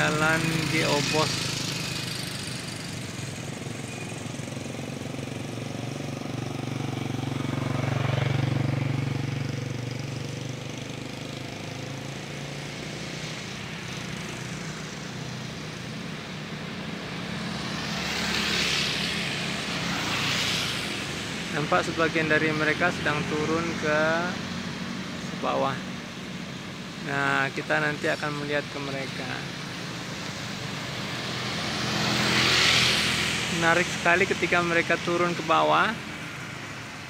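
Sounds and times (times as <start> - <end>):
traffic engine hum: 0.0 - 37.0
vehicles passing: 0.0 - 37.0.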